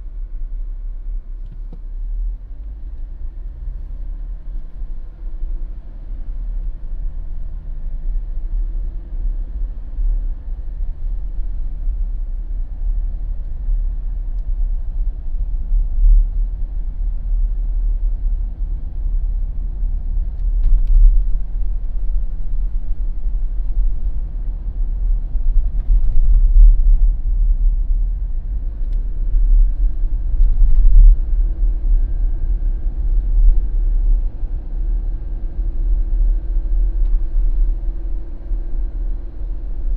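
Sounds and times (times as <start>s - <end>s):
car engine and tyres rumbling: 0.0s - 39.9s
light ticks from road: 0.1s - 39.9s.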